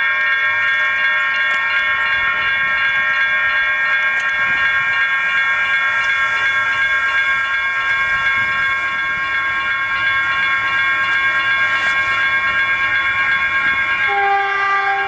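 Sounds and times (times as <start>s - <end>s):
railroad crossing bells ringing: 0.0s - 15.0s.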